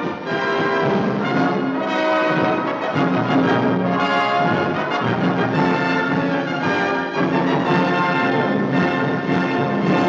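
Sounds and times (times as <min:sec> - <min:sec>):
orchestral music with brass chords: 0:00.0 - 0:10.0.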